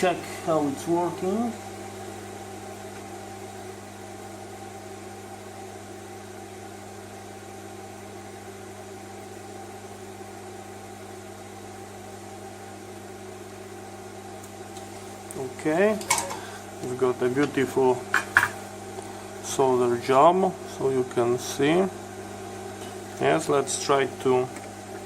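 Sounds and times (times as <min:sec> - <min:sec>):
electrical hum with faint hiss: 0:00.0 - 0:25.0.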